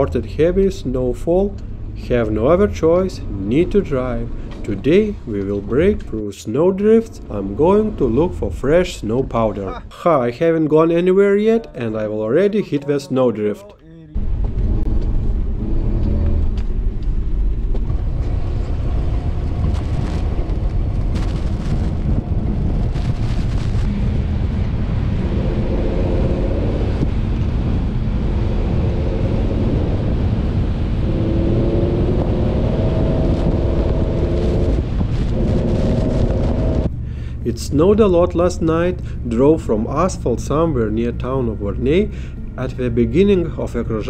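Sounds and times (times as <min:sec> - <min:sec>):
engine rumbling through snow: 0:00.0 - 0:13.0, 0:14.2 - 0:44.0.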